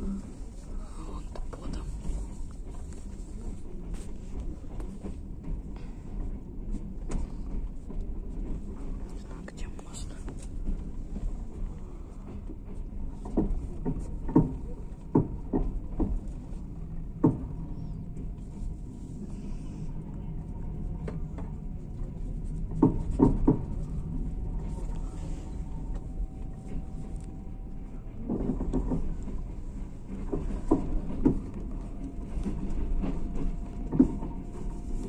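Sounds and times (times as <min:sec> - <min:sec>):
train carriage rumbling: 0:00.0 - 0:35.0.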